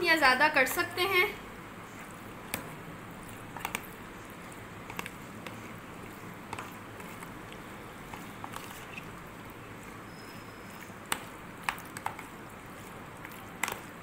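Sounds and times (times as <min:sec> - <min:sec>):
squelching of meat mixed by hand: 0:01.8 - 0:14.0.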